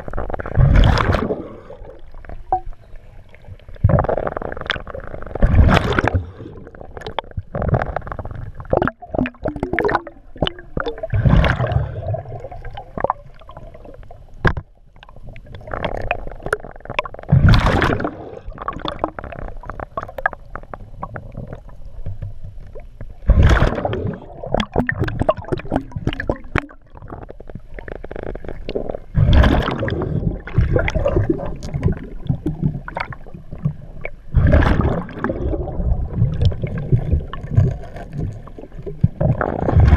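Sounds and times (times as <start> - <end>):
diver exhaling bubbles underwater: 0.0 - 2.6, 3.8 - 14.0, 15.1 - 22.0, 23.2 - 39.9
soft bubbling: 0.0 - 39.9.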